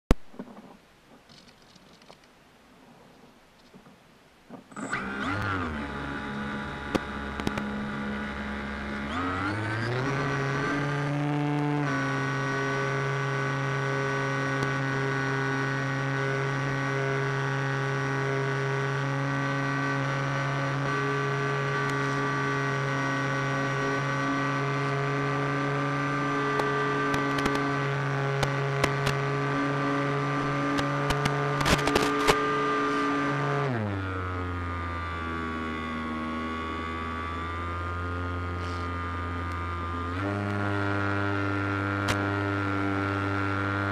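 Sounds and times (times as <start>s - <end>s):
electric motor propeller whine: 4.7s - 43.9s.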